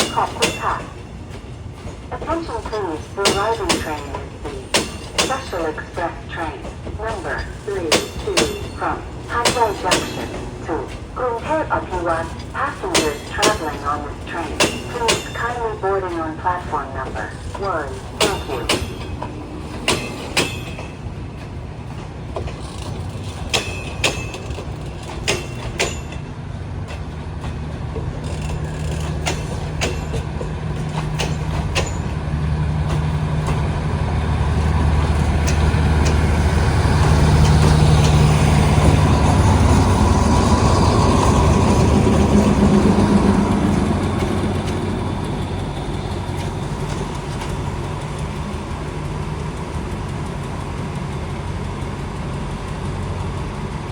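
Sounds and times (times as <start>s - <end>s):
locomotive engine hum: 0.0s - 53.9s.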